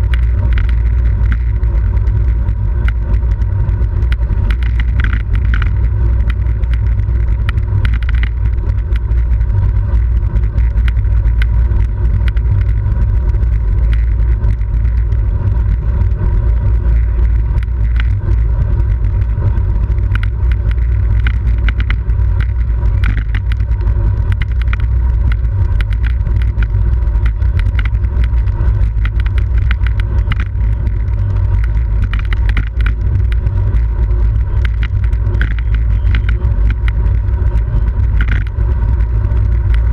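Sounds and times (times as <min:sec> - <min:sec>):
road noise: 0:00.0 - 0:39.9
small scattered clicks: 0:00.0 - 0:39.9
wind buffeting microphone: 0:00.0 - 0:39.9.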